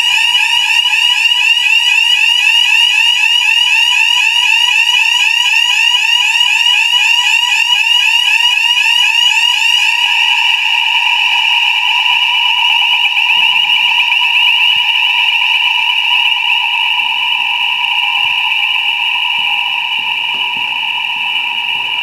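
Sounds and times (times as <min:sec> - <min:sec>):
fire alarm warbling tone: 0:00.0 - 0:22.0.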